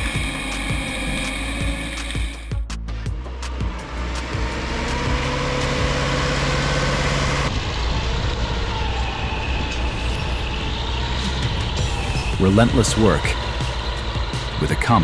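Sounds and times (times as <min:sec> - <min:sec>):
heavy machine engine running: 0:00.0 - 0:02.5, 0:03.1 - 0:15.0.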